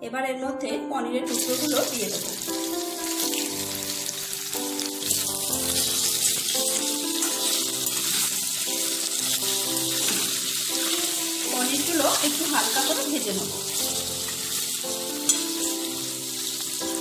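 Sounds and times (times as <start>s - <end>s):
background music with held notes: 0.0s - 17.0s
cheese frying in oil: 1.4s - 17.0s.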